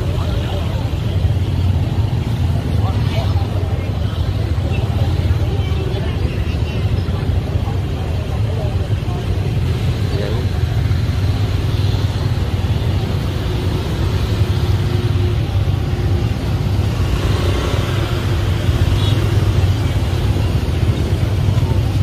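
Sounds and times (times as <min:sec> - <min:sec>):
road noise: 0:00.0 - 0:22.0
scooter engines rumbling: 0:00.0 - 0:22.0.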